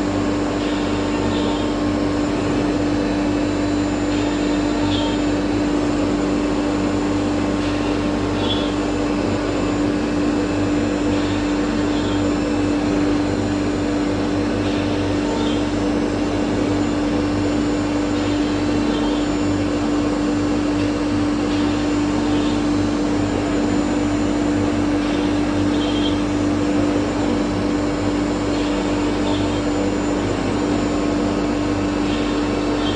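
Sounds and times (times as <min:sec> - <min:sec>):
router spindle hum: 0:00.0 - 0:32.9.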